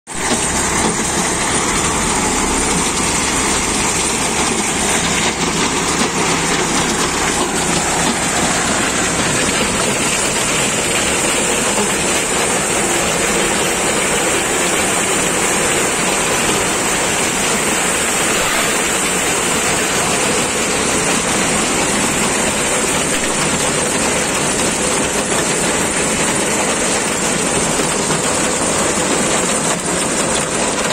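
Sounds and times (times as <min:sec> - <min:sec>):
tractor diesel engine under load: 0:00.1 - 0:30.9.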